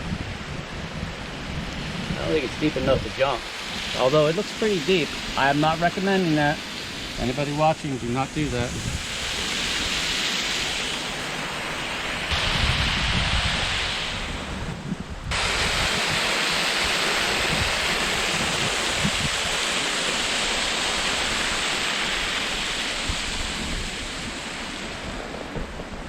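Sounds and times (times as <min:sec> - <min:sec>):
waterfall rushing into pool: 0:00.0 - 0:26.0.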